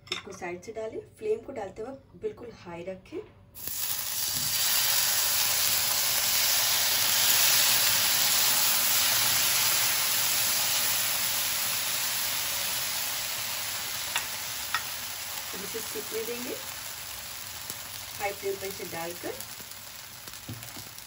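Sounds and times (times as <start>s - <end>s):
batter sizzling on hot griddle: 3.6s - 21.0s.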